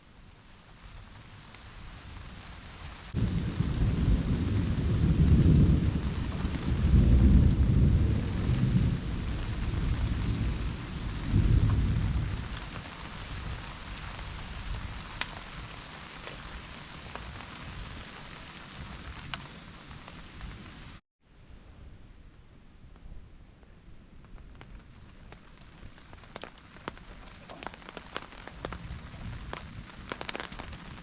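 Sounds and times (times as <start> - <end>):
steady rain: 0.0 - 21.0, 24.2 - 31.0
thunder rumbling: 0.9 - 21.0, 23.9 - 31.0.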